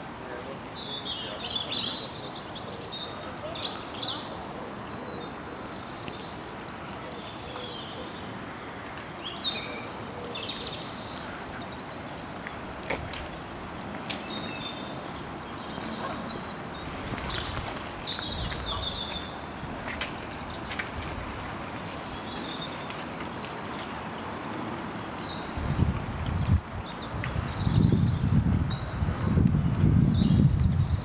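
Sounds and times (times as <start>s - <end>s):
small birds chirping: 0.2s - 21.0s, 21.8s - 31.0s.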